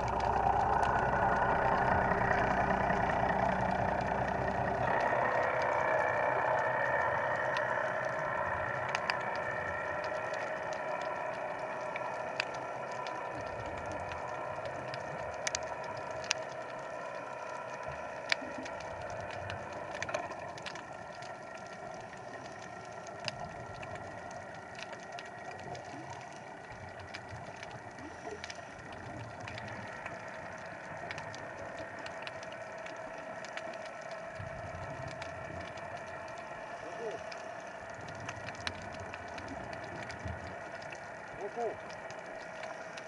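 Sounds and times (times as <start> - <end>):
underwater boat engine drone: 0.0 - 43.0.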